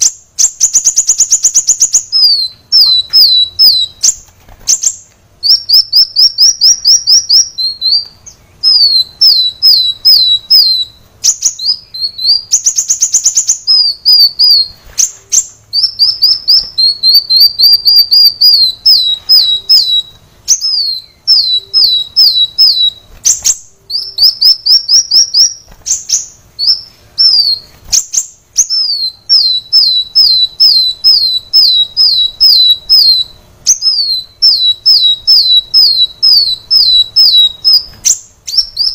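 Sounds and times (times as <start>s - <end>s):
sunbird singing high notes: 0.0s - 4.2s, 4.8s - 38.9s
buzzy bird trill: 0.0s - 38.9s.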